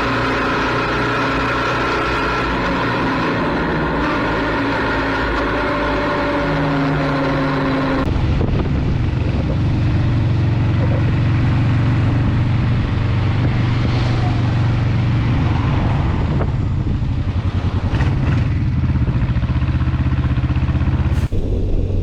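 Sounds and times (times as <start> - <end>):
engine drone: 0.0 - 22.0
motorcycle engine drone: 0.0 - 22.0.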